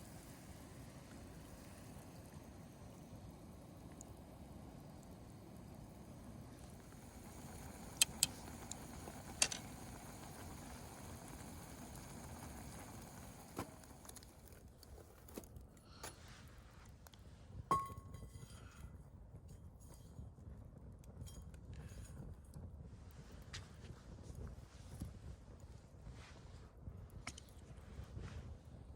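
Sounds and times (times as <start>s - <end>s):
low steady background noise: 0.0s - 28.9s.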